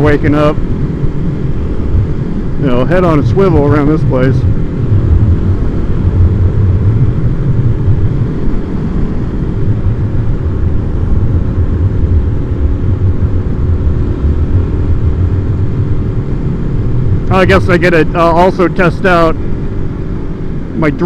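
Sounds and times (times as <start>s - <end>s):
motorcycle engine cruising: 0.0s - 21.0s
wind buffeting on microphone: 0.0s - 21.0s.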